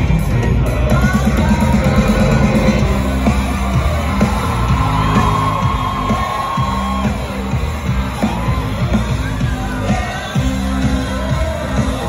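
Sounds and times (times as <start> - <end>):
pop music over sound system: 0.0 - 12.0
audience yelling and whooping: 0.1 - 12.0.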